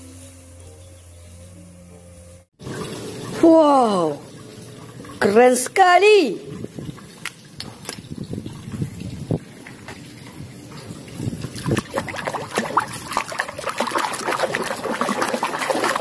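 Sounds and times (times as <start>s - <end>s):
water sloshing and splashing: 2.6s - 16.0s.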